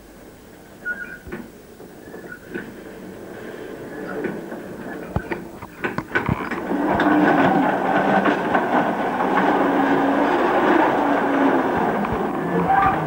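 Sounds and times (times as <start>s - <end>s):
model tram wheels rumbling on rails: 0.0s - 13.0s.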